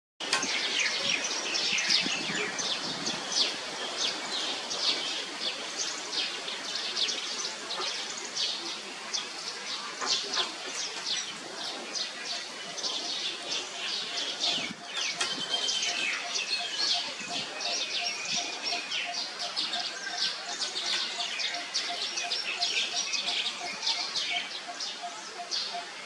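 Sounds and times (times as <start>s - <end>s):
small birds chirping: 0.3s - 26.0s.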